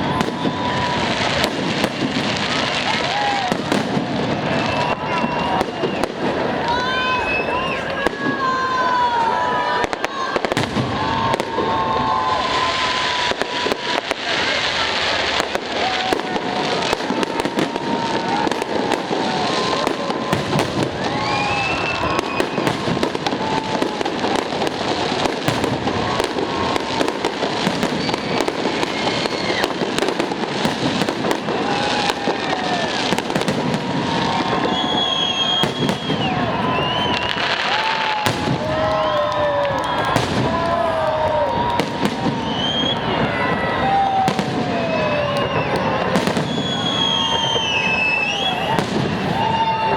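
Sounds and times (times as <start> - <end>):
fireworks crackling and banging: 0.0 - 49.9
fireworks whistling: 0.0 - 49.9.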